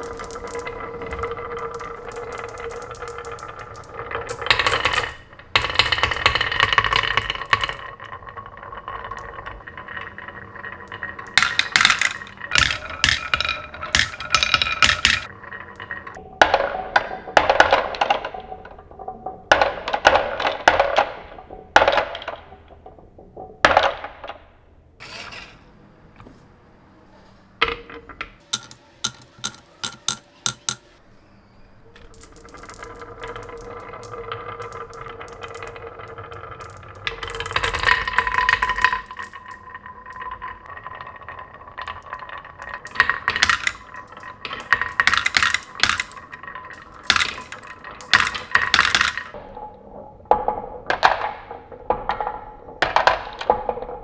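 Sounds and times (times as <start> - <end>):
marbles clattering on a track: 0.0 - 25.6, 27.6 - 54.0.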